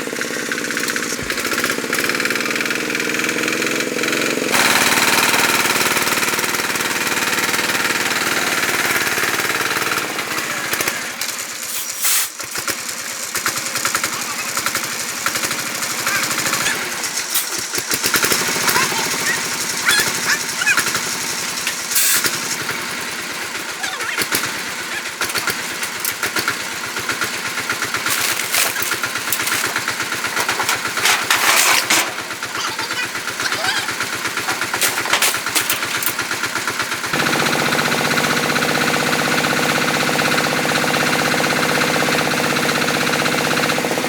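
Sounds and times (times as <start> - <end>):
power tool rattling: 0.0 - 44.0.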